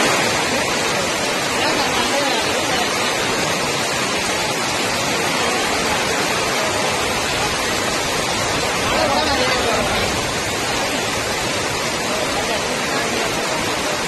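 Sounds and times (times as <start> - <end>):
heavy rain splashing into water: 0.0 - 14.0.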